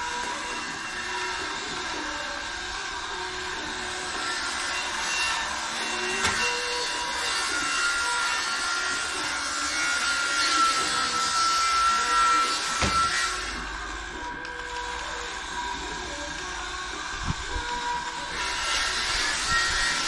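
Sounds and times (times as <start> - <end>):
electric saw whining: 0.0 - 20.0.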